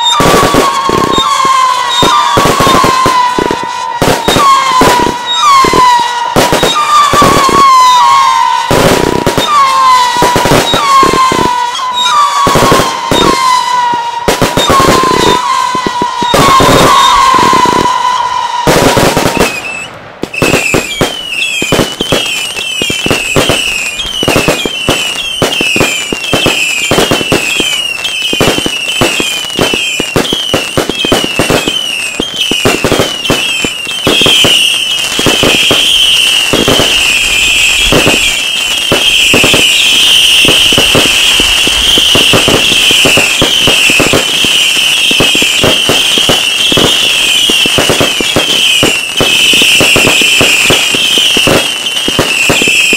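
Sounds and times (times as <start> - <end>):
fireworks falling whistles: 0.0 - 52.9
fireworks sharp bangs: 0.0 - 52.9.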